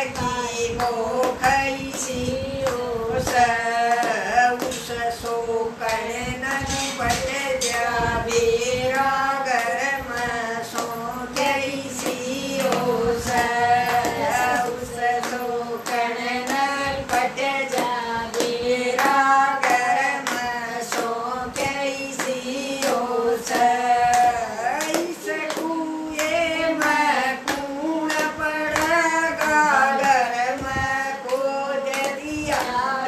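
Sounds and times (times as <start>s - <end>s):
hand claps: 0.0s - 33.0s
women singing folk song: 0.0s - 33.0s.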